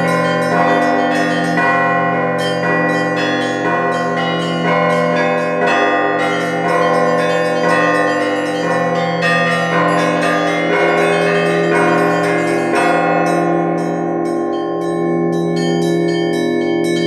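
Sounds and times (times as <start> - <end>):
large bells ringing: 0.0 - 17.0
small church bells striking rapidly: 0.0 - 17.0.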